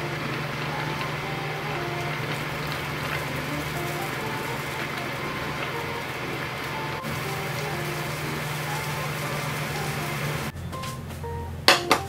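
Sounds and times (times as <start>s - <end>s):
steady hiss: 0.0s - 10.5s
soft background music: 0.0s - 12.0s.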